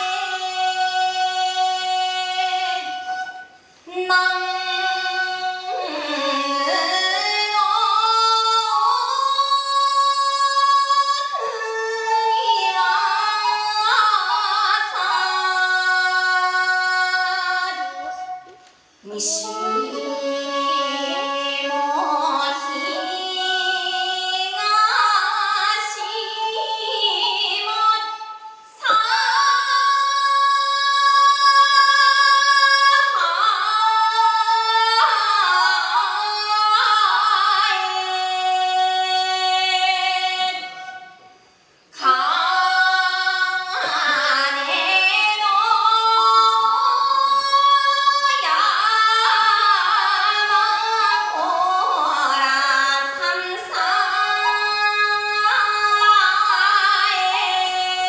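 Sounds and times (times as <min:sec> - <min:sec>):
woman singing folk song: 0:00.0 - 0:41.1, 0:42.0 - 0:58.0.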